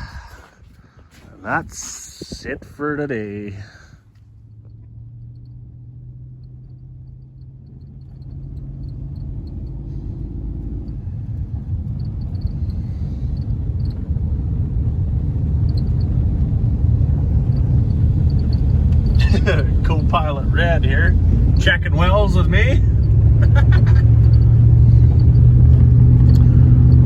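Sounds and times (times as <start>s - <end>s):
truck engine rumble from inside: 0.0s - 27.0s.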